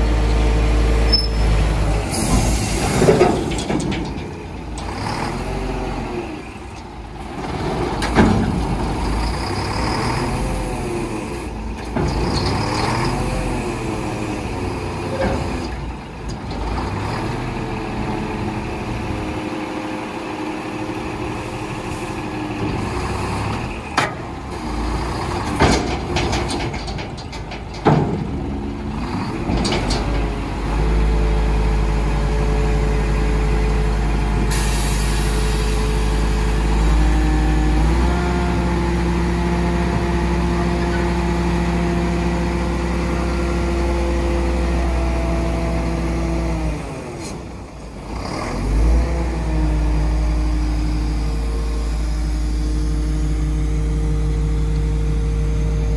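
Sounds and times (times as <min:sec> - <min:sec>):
truck diesel engine running: 0:00.0 - 0:55.9.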